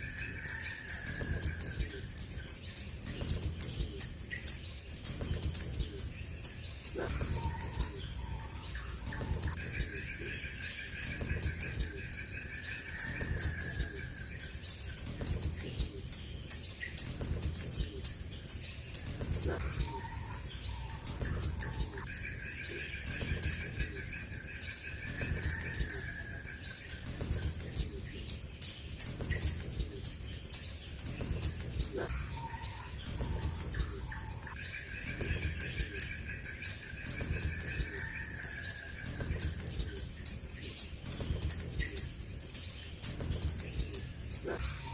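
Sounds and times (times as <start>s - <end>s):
sunbird high sharp chirps: 0.0s - 44.9s.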